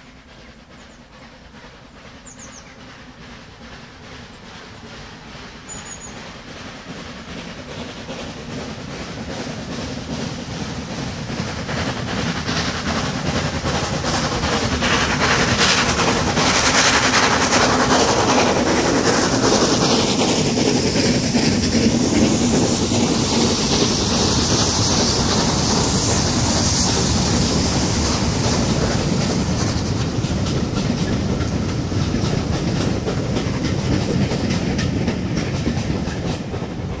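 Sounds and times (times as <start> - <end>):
steam locomotive passing: 0.0 - 37.0.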